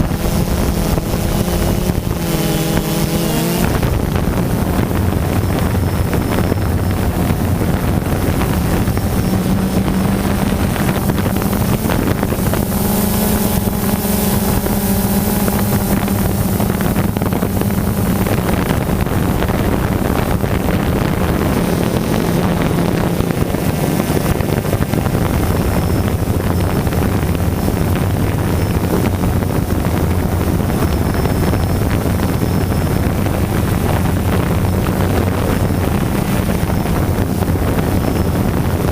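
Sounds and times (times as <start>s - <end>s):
drone propellers buzzing: 0.0s - 38.9s
wind noise on microphone: 0.0s - 38.9s.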